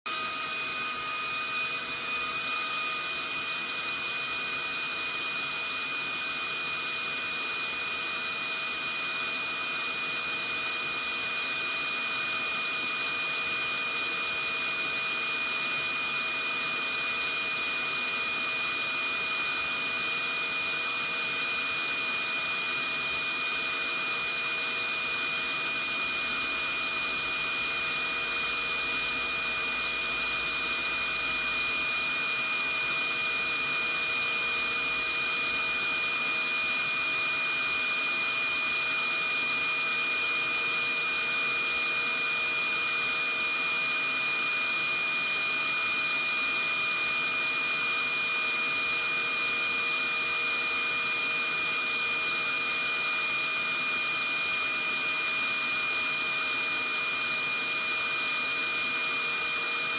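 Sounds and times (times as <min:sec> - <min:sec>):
vacuum cleaner running: 0:00.1 - 0:59.9.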